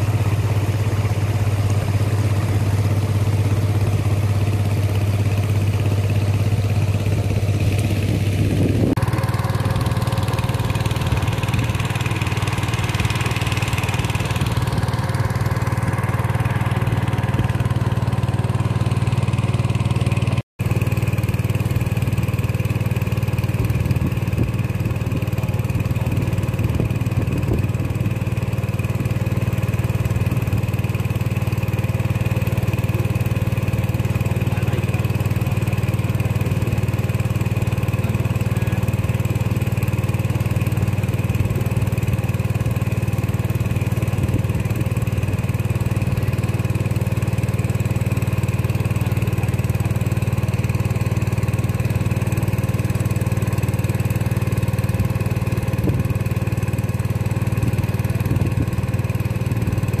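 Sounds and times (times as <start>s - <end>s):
boat motor droning: 0.0s - 60.0s.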